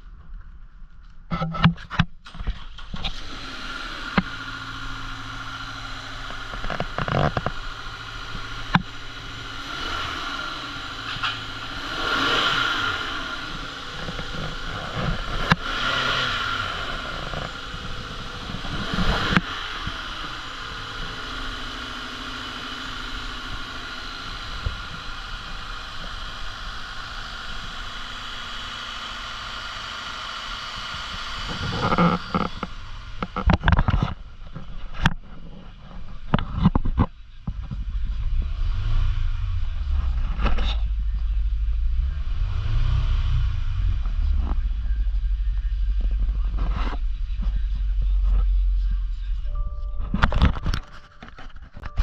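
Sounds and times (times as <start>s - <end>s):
car engine starting and revving: 2.2s - 49.6s.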